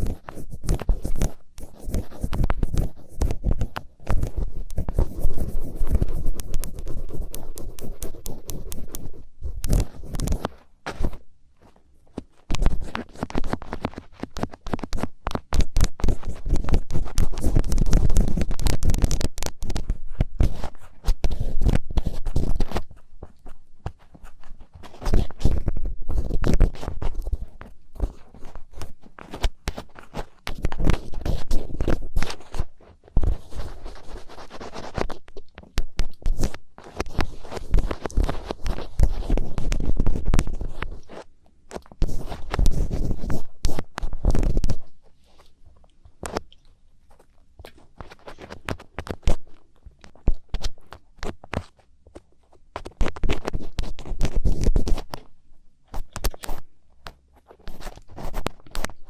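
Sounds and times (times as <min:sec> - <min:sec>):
ear pick scratching: 0:00.0 - 0:45.6, 0:46.2 - 0:55.3, 0:55.9 - 0:59.0.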